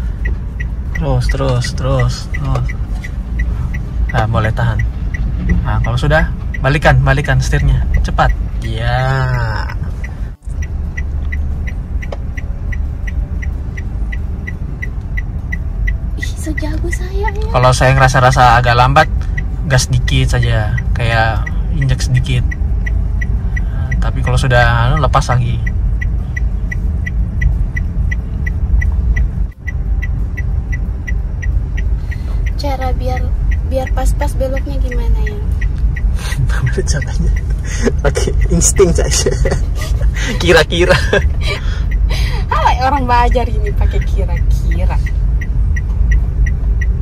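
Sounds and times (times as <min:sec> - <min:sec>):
engine and road rumble: 0:00.0 - 0:47.0
turn signal ticking: 0:00.0 - 0:47.0.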